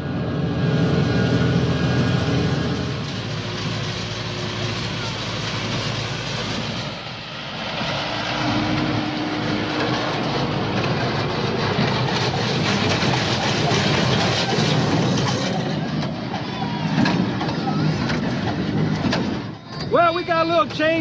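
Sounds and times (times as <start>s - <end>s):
hay baler mechanical clatter: 1.9s - 21.0s.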